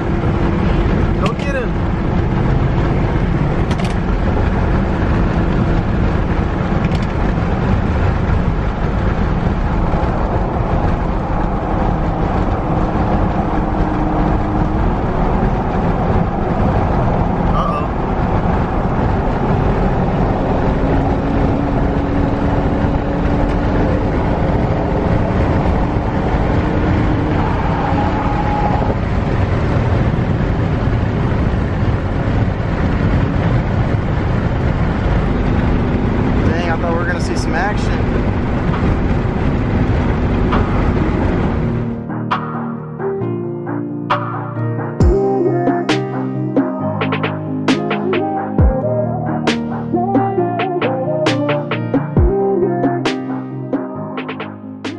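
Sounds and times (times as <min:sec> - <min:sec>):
road and engine noise inside car: 0:00.0 - 0:44.2, 0:44.8 - 0:54.9.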